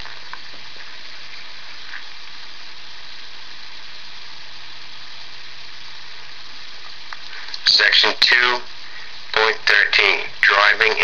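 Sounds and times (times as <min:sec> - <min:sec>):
background hiss: 0:00.0 - 0:11.0
faint low hum: 0:00.0 - 0:11.0.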